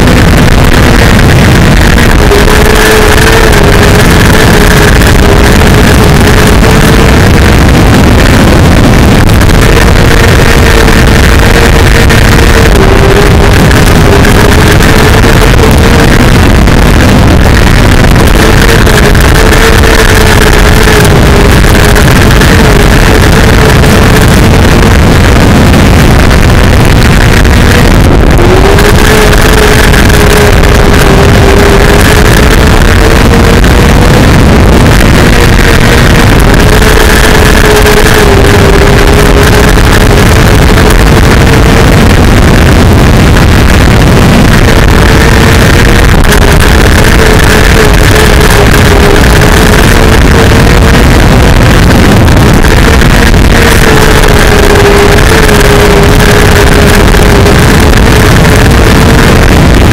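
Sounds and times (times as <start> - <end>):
race car engine at high revs: 0.0 - 59.9
wind noise on microphone: 0.0 - 59.9.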